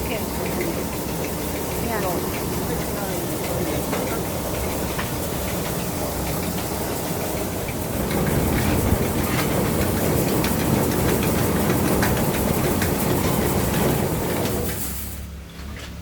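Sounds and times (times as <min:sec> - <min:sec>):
feed mill motor humming: 0:00.0 - 0:16.0
rattle of feed in machine: 0:00.0 - 0:16.0.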